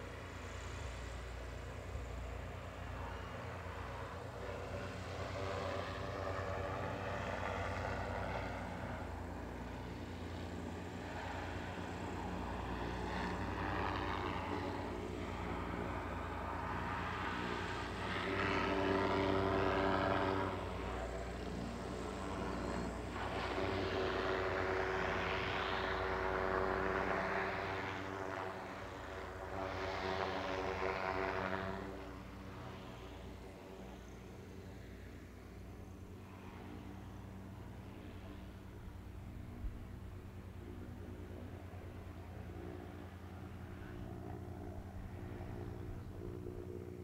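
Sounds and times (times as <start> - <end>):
airship engine drone: 0.0 - 47.0
propeller rush: 0.0 - 47.0.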